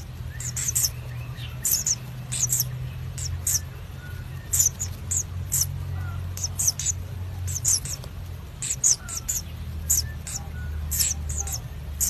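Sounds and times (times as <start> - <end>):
nestling birds squeaking chirps: 0.0 - 12.0
steady low hum: 0.0 - 12.0.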